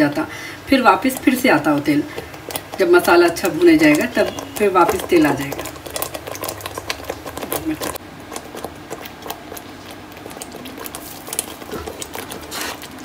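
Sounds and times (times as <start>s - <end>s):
thick gravy bubbling and spitting: 0.0s - 13.0s.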